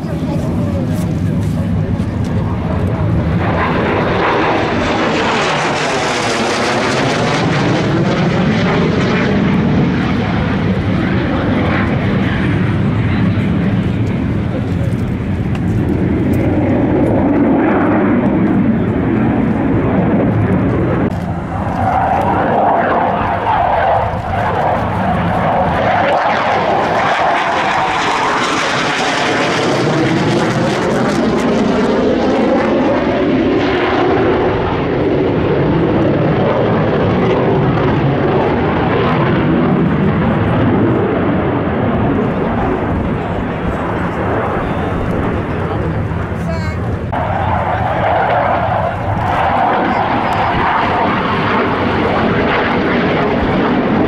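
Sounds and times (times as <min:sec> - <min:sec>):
jet engine passing low: 0:00.0 - 0:54.0.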